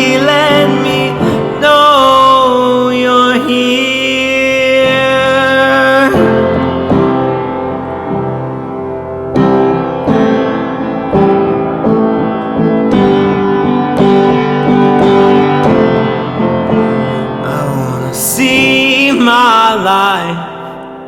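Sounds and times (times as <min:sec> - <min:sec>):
piano chords ringing: 0:00.0 - 0:21.0.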